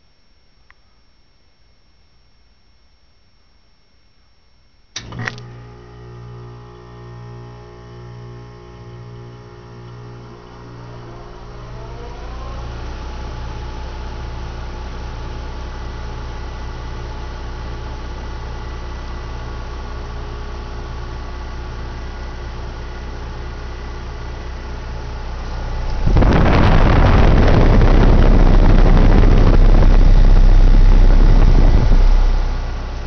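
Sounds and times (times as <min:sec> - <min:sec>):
heat pump compressor hum: 0:05.0 - 0:33.0.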